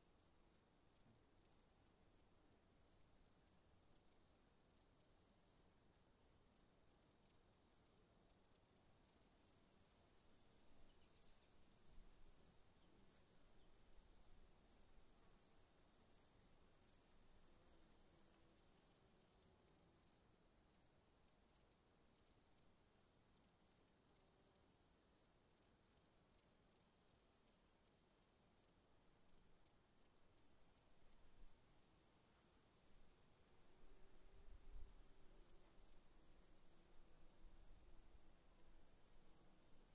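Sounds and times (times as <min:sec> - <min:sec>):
faint insect hiss: 0:00.0 - 0:39.9
crickets chirping: 0:00.1 - 0:24.6, 0:25.2 - 0:39.9.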